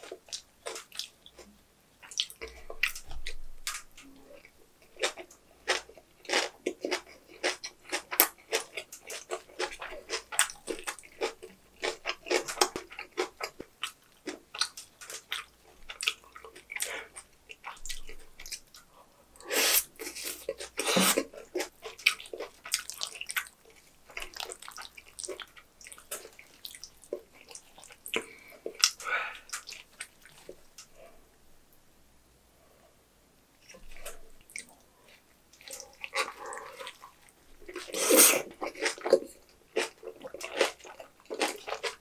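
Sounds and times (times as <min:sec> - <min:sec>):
wet crunchy chewing: 0:00.0 - 0:18.8, 0:19.8 - 0:31.0, 0:33.7 - 0:42.0.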